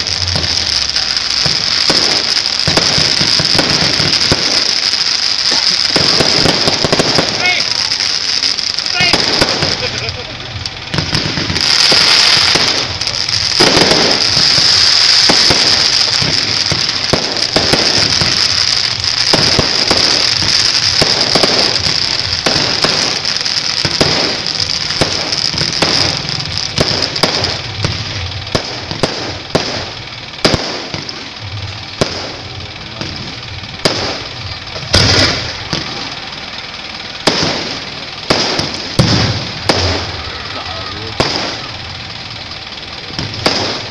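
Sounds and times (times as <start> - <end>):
fireworks crackling and banging: 0.0 - 43.9
steady hiss: 0.0 - 43.9.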